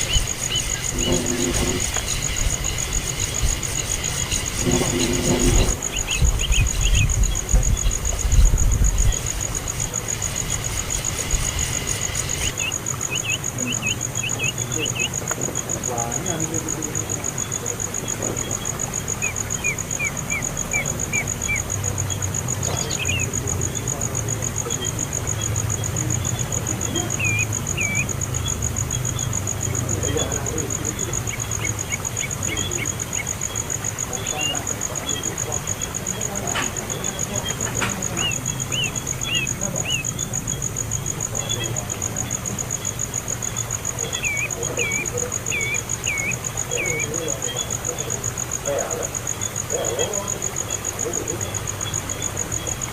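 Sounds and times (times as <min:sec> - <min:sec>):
small bird chirping: 0:00.0 - 0:15.2, 0:15.9 - 0:24.0, 0:24.6 - 0:52.9
insect trilling: 0:00.0 - 0:52.9.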